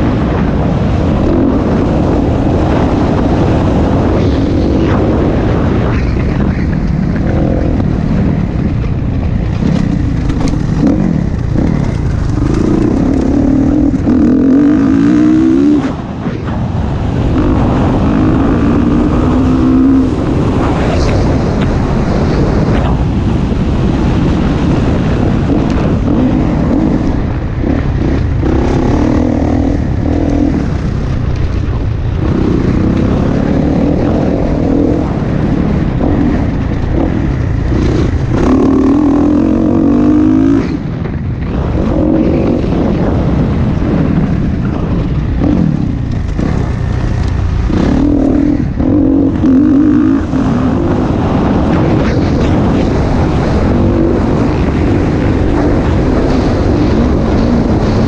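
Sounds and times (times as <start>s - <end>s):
dirt bike engine revving: 0.0s - 58.0s
wind and tyre noise: 0.0s - 58.0s.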